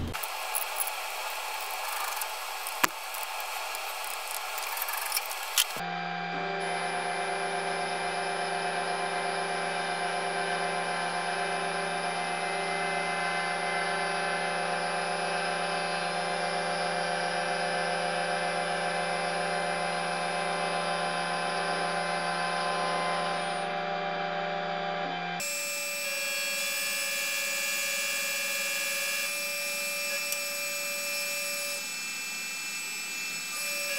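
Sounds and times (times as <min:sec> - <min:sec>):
mill cutting metal with whine: 0:00.0 - 0:33.9.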